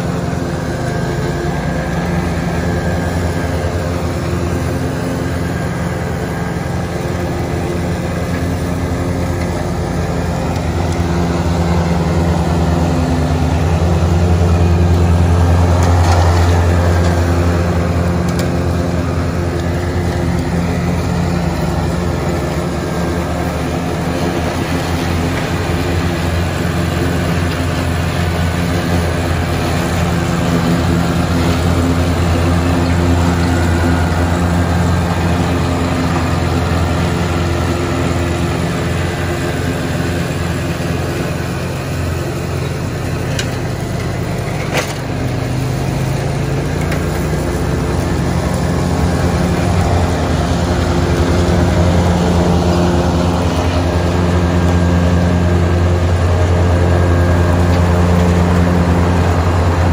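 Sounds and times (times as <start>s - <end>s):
mower cutting grass: 0.0s - 59.9s
tractor diesel engine running: 0.0s - 59.9s.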